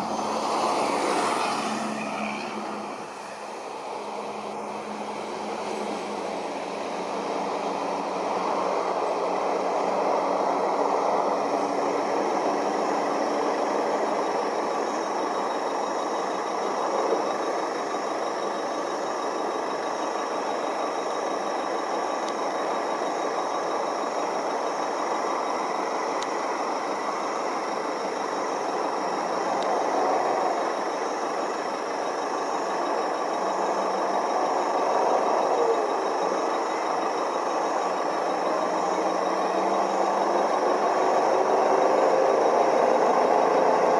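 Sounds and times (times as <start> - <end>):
truck engines idling: 2.2 - 43.9.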